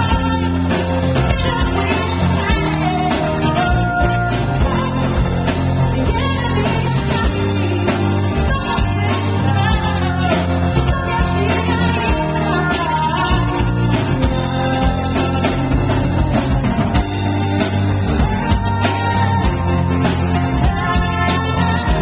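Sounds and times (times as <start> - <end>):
drums: 0.0 - 22.0
keyboard: 0.0 - 22.0
woman singing lead: 0.0 - 22.0.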